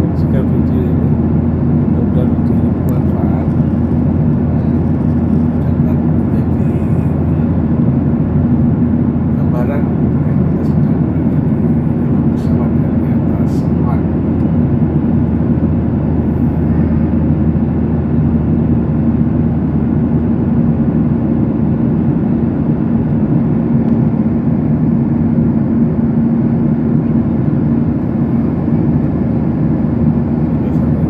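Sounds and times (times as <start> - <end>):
constant low hum: 0.0 - 31.0
jet airliner cabin noise: 0.0 - 31.0.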